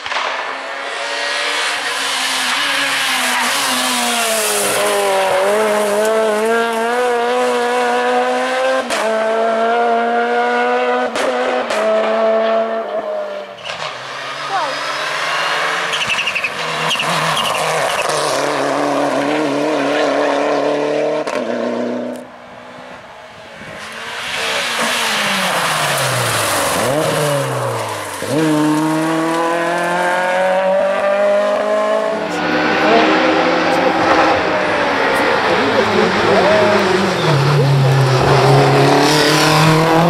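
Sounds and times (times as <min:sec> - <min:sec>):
car passing close: 0:00.0 - 0:40.0
rally car engines revving: 0:00.0 - 0:40.0.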